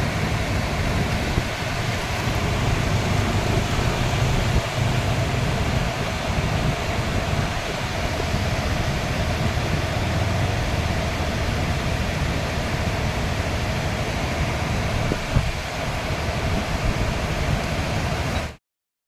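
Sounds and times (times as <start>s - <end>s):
river rushing: 0.0s - 18.6s.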